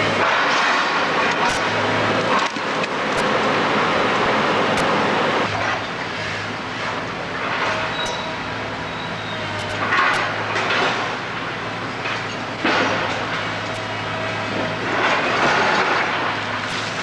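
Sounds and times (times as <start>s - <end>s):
machinery engine drone: 0.0s - 17.0s.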